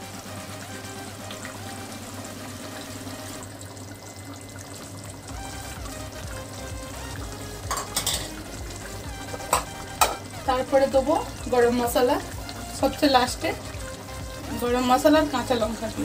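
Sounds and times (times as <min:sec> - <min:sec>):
background music: 0:00.0 - 0:16.0
gravy simmering and bubbling: 0:00.0 - 0:16.0.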